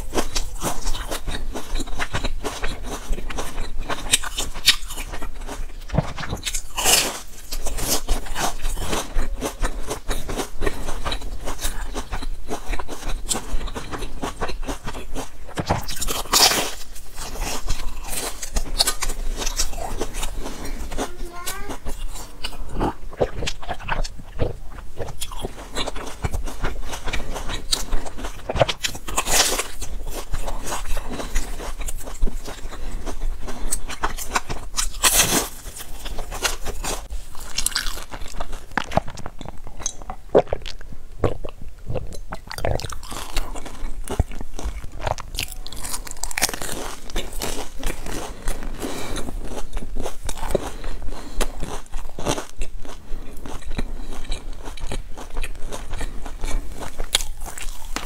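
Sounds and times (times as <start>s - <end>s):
crunching crusty bread: 0.0s - 58.0s.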